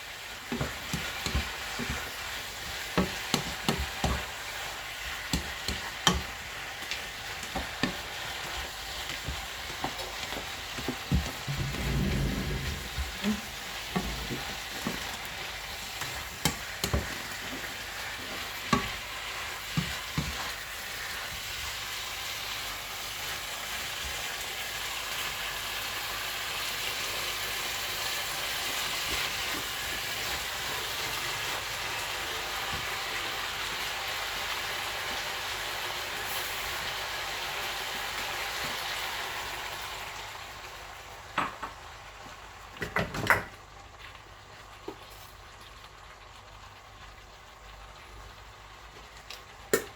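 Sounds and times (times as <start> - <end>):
stir-fry sizzling in a pan: 0.0 - 49.9.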